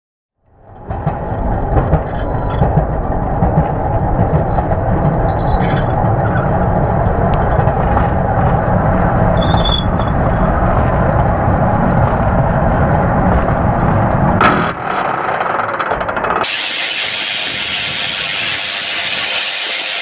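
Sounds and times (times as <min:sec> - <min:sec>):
roller coaster wheels on rail: 0:00.4 - 0:20.0.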